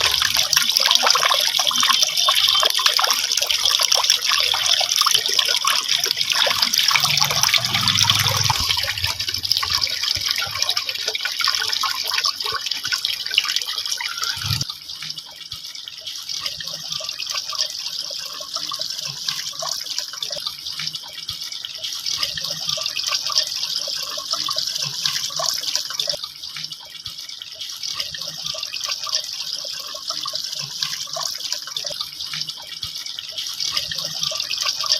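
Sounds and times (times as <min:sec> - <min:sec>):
fountain water trickling and splashing: 0:00.0 - 0:34.9.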